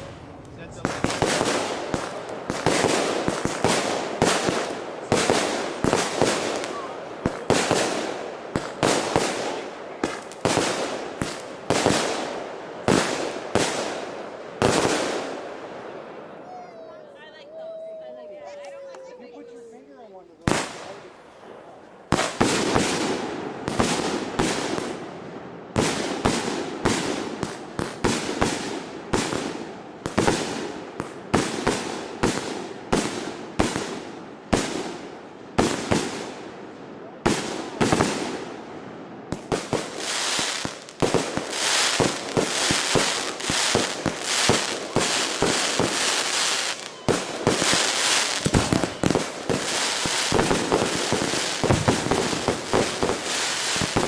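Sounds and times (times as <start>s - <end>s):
firework bangs: 0.0s - 16.3s, 20.4s - 21.1s, 22.1s - 54.0s
firework crackle: 0.0s - 16.3s, 20.4s - 38.7s, 39.3s - 54.0s.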